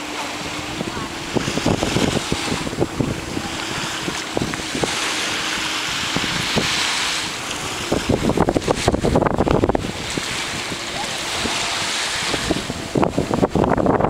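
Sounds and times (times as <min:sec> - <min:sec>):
small waves washing on sand: 0:00.0 - 0:14.0
wind buffeting microphone: 0:00.0 - 0:14.0.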